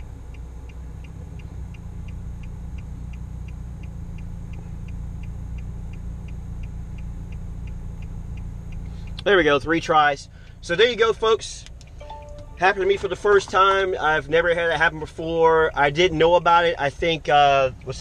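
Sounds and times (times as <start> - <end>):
car engine idling: 0.0 - 18.0
light regular ticking: 0.0 - 18.0.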